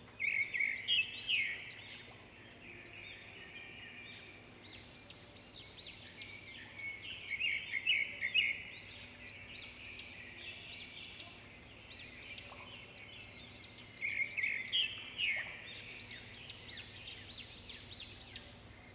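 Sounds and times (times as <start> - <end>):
songbirds chirping and twittering: 0.0 - 18.9.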